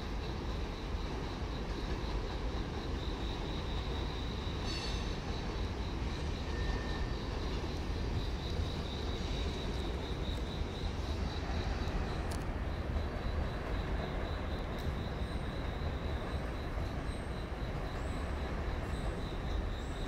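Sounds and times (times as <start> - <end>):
train station ambience rumble: 0.0 - 20.0.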